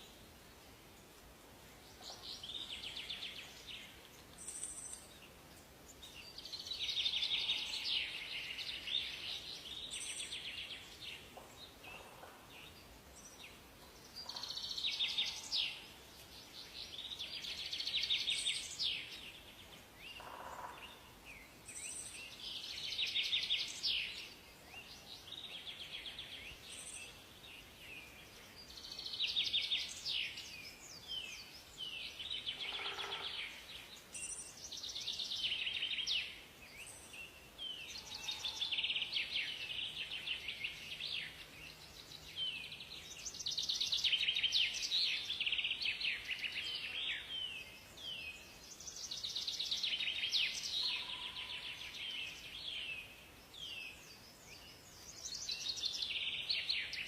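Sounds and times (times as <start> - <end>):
songbirds trilling: 1.9 - 57.0.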